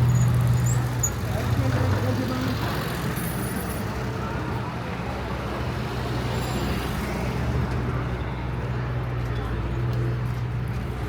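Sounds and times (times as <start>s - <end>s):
busy street noise: 0.0s - 11.0s.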